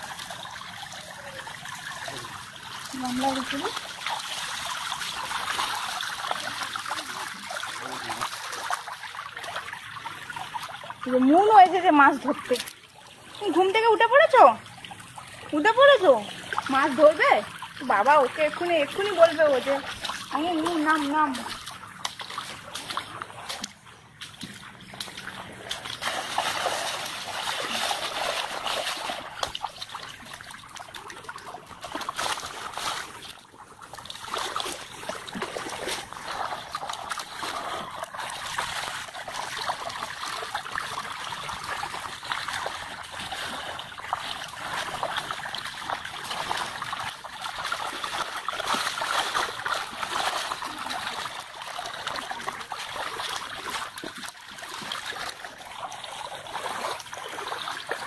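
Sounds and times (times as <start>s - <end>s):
shallow water trickling and splashing: 0.0s - 58.0s.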